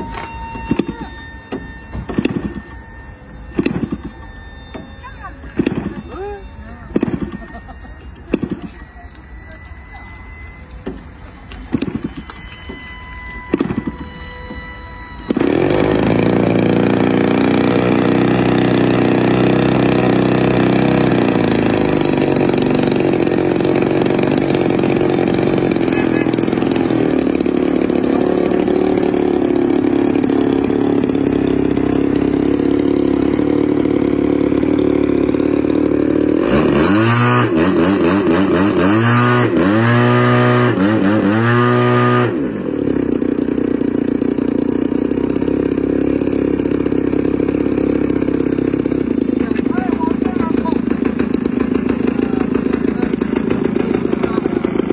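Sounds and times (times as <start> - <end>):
model plane engine and propeller: 0.0 - 54.9.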